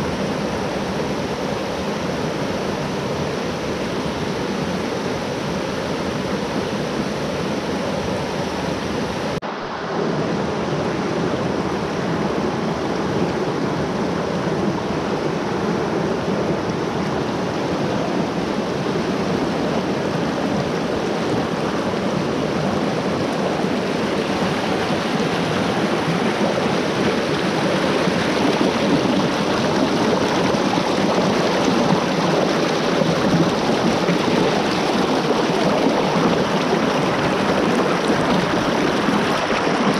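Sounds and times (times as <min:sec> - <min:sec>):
creek water rushing over rocks: 0:00.0 - 0:39.9.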